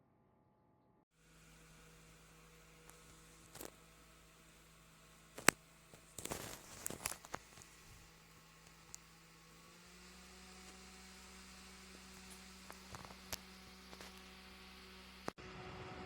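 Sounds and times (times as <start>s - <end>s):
desk fan humming: 1.2s - 15.4s.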